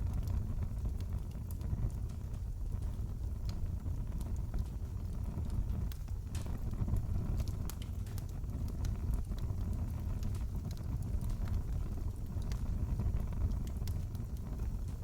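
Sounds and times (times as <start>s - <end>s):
wood fire crackling in fireplace: 0.0s - 15.0s.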